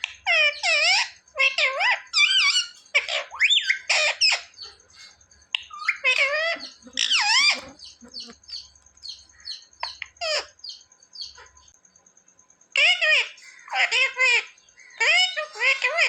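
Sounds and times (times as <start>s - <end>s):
parakeet squawking and chirping: 0.0s - 11.7s, 12.8s - 16.0s.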